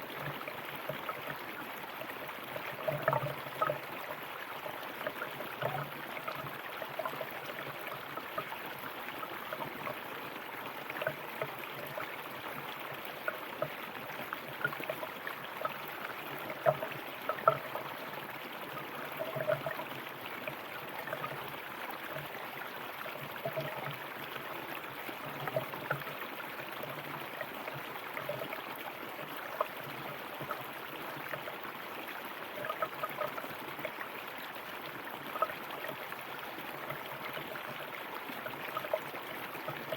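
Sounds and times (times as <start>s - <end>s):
stream water flowing over rocks: 0.0s - 39.9s
water splashes: 0.0s - 39.9s.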